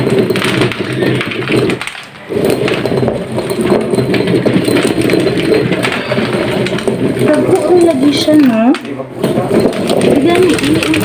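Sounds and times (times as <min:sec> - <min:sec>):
stone grinder grinding corn: 0:00.0 - 0:11.0.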